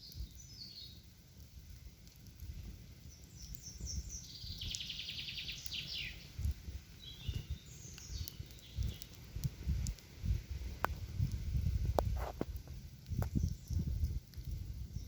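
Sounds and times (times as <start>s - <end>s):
songbirds chirping: 0.0s - 10.1s, 13.0s - 15.0s.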